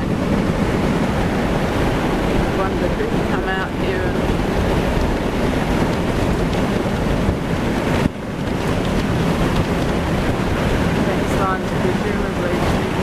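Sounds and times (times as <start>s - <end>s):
road noise inside a vehicle: 0.0s - 13.0s
wind buffeting microphone: 0.0s - 13.0s
wind rush: 0.0s - 13.0s.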